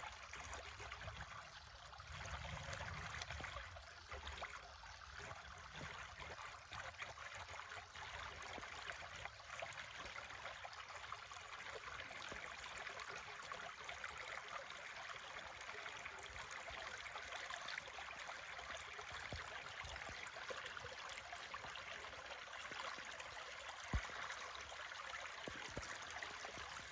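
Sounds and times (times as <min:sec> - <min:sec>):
creek trickling over stones: 0:00.0 - 0:26.9.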